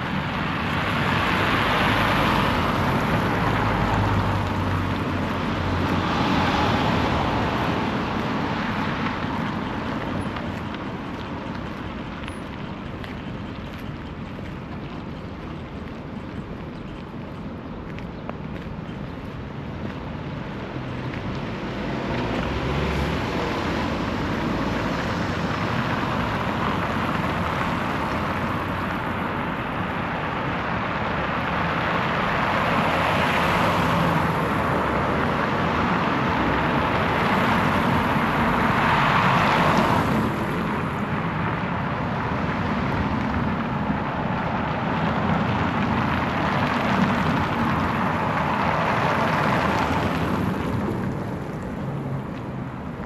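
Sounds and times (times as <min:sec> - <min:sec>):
street traffic: 0:00.0 - 0:53.0
vehicles passing close by: 0:00.0 - 0:53.0.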